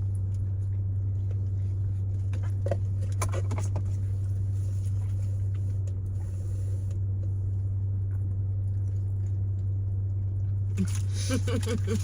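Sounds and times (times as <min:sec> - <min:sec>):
car cabin hum: 0:00.0 - 0:09.7, 0:10.6 - 0:12.0.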